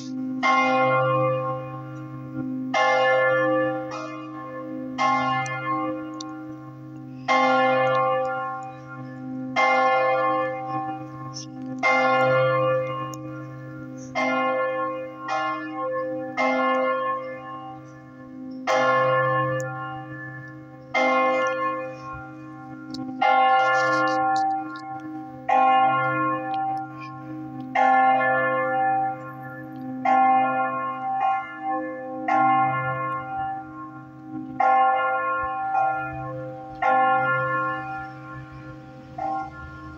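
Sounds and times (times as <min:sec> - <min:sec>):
church bell striking: 0:00.0 - 0:39.9.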